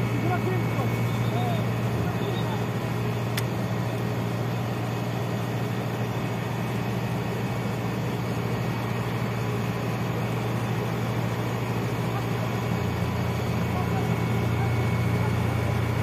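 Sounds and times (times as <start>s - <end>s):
large engine running: 0.0s - 16.0s.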